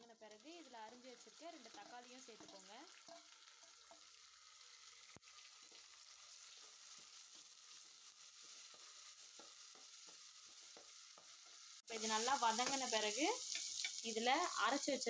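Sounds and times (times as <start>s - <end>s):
faint sizzling in a pot: 0.0s - 15.0s.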